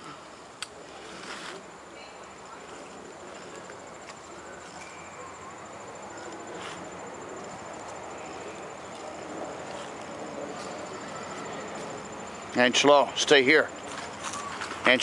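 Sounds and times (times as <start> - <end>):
insects trilling: 0.0 - 15.0
outdoor background hiss: 0.0 - 15.0.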